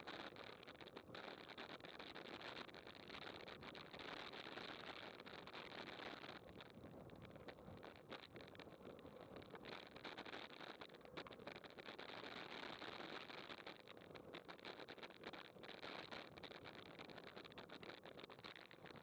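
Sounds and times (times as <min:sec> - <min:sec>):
small irregular clicks and knocks: 0:00.0 - 0:19.0.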